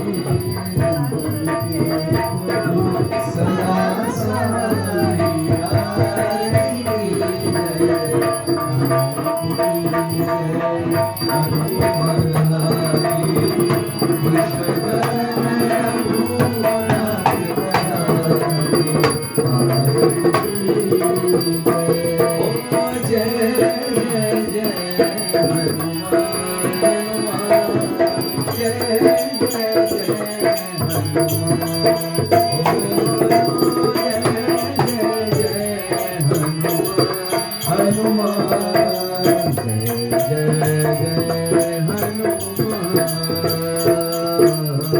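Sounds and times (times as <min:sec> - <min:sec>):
bells ringing: 0:00.0 - 0:44.9
devotional hymn singing: 0:00.0 - 0:44.9
hand drum: 0:00.0 - 0:44.9.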